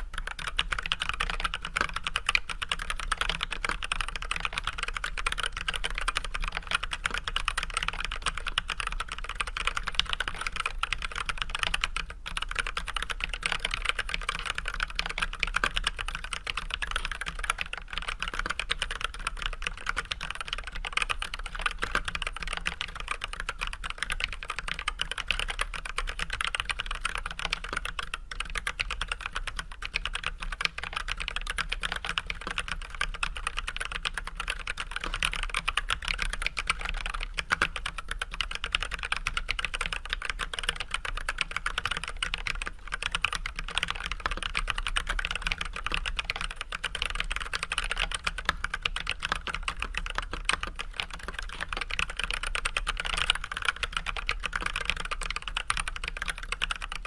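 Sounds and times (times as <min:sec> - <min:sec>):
mechanical keyboard typing: 0:00.0 - 0:57.0.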